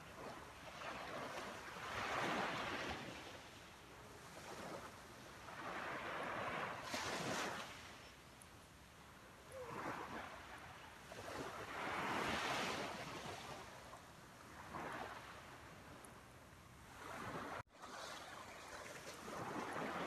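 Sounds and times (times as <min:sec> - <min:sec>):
waves washing up a beach: 0:00.0 - 0:20.0.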